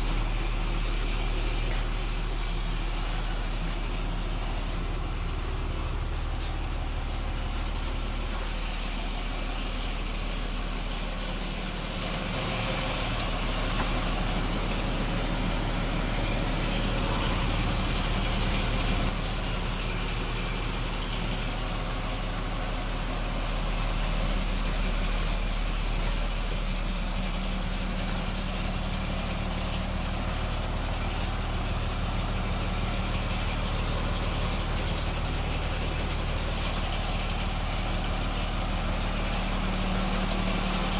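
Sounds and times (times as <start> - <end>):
bus engine idling: 0.0 - 40.9.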